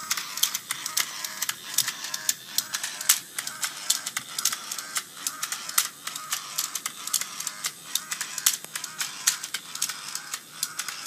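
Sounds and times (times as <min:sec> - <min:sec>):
small motors whirring: 0:00.0 - 0:11.0.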